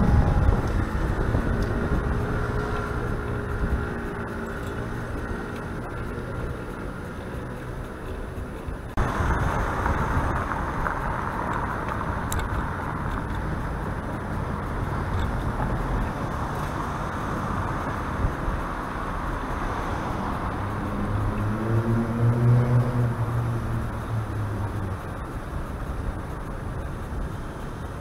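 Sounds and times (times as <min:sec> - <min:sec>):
wind noise: 0:00.0 - 0:07.5, 0:08.3 - 0:28.0
cars passing close by: 0:00.0 - 0:28.0
road rumble: 0:00.0 - 0:28.0.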